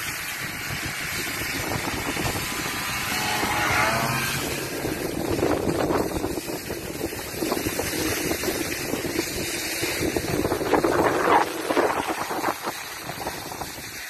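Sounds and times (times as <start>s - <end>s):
skis scraping on snow: 0.0s - 14.0s
wind buffeting microphone: 0.0s - 14.0s.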